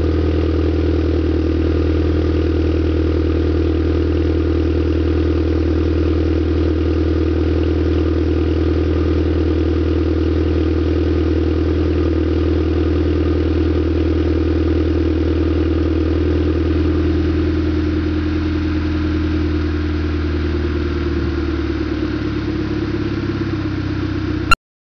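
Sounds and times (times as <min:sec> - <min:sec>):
car engine idling: 0:00.0 - 0:24.5.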